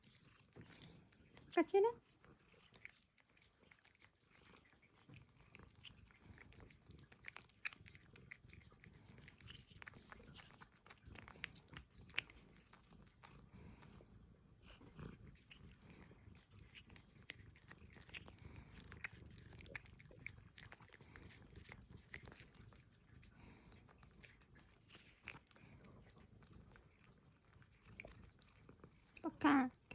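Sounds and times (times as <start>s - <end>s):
cat licking and smacking: 0.0s - 29.9s.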